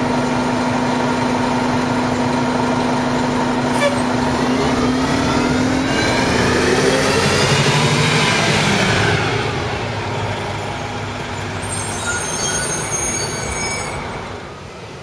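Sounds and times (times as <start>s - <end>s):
bus passing and pulling away: 0.0s - 15.0s.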